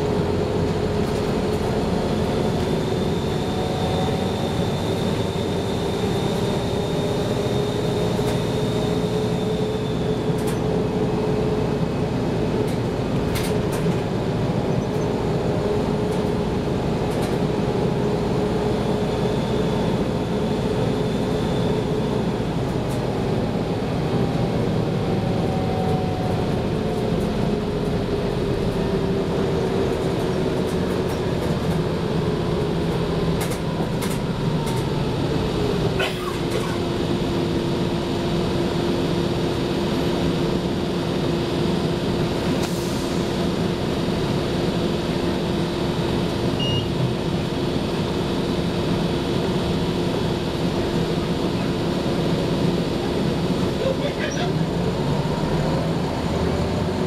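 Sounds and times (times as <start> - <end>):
bus engine whine from cabin: 0.0 - 57.0.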